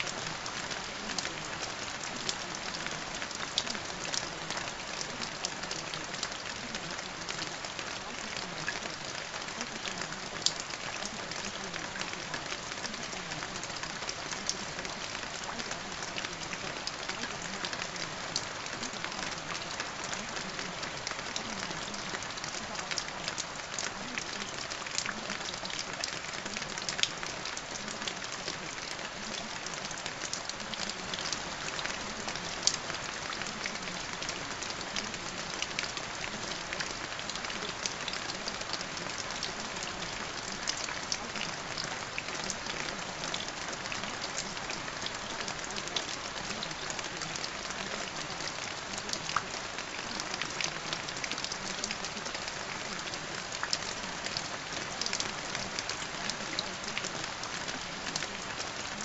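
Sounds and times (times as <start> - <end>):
loud raindrops: 0.0 - 59.0
steady rain falling: 0.0 - 59.0.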